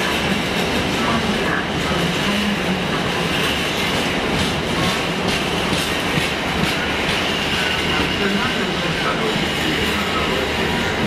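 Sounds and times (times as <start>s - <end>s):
train wheels knocking on track: 0.0s - 11.0s.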